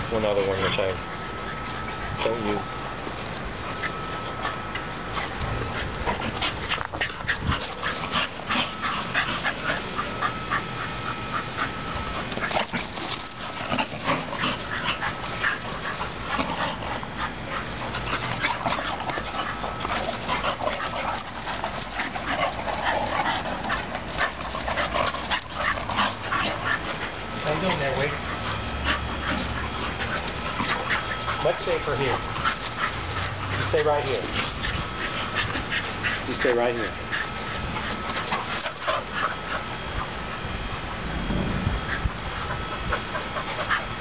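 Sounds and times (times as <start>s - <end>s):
dogs yipping and whining: 0.0s - 41.1s, 41.7s - 44.0s
dogs scuffling: 0.0s - 44.0s.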